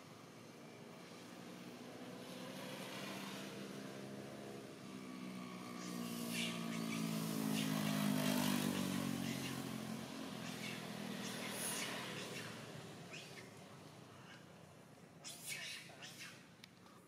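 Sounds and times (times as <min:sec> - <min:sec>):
vehicle engine passing by: 0:00.2 - 0:16.5.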